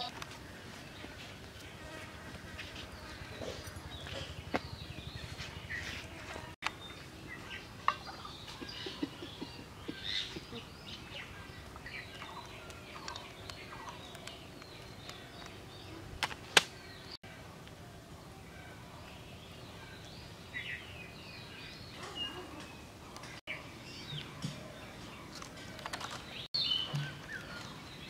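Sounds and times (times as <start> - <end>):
birds chirping: 0.0 - 17.2, 18.2 - 28.0.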